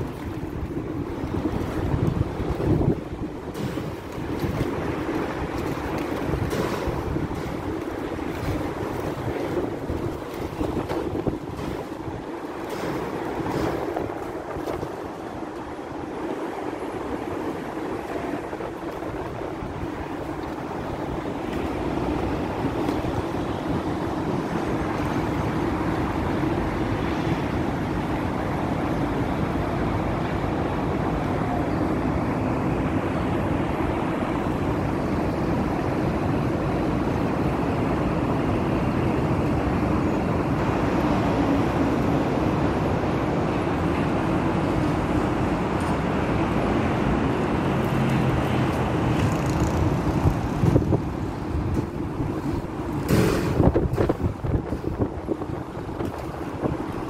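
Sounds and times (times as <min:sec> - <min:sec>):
city traffic rumble: 0:00.0 - 0:57.0.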